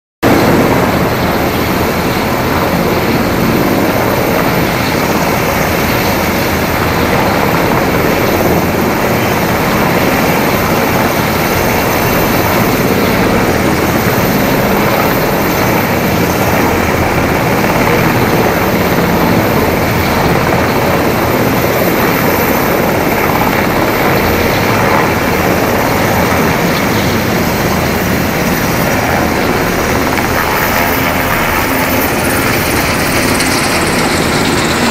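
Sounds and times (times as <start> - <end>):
helicopters running: 0.2 - 34.9.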